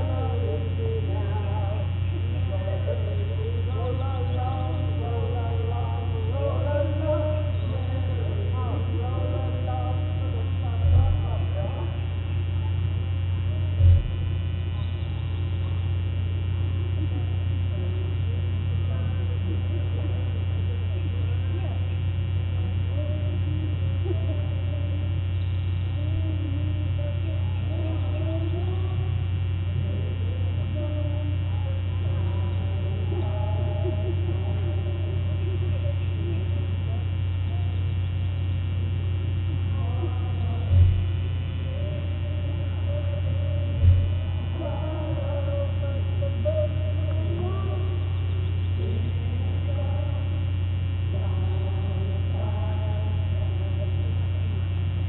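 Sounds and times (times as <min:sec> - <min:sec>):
faint voices singing: 0:00.0 - 0:55.0
low electrical hum: 0:00.0 - 0:55.0.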